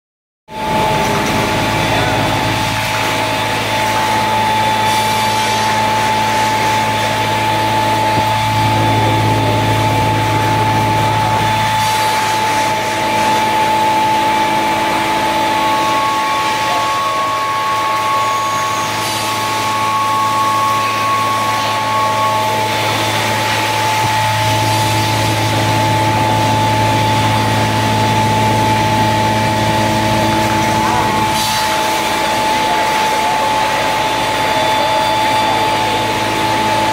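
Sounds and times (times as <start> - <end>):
higher whine: 0.5 - 36.9
machine hum with high whine: 0.5 - 36.9.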